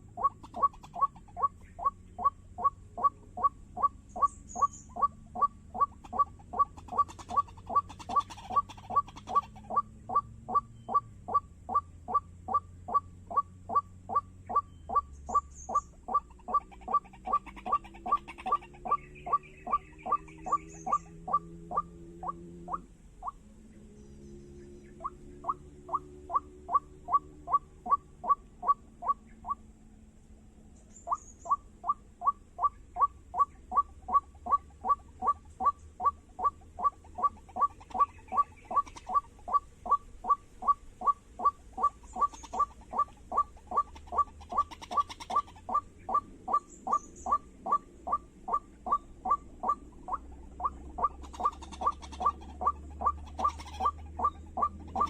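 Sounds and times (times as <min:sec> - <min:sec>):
waterhen calling: 0:00.0 - 0:23.8, 0:24.5 - 0:29.7, 0:30.8 - 0:55.0.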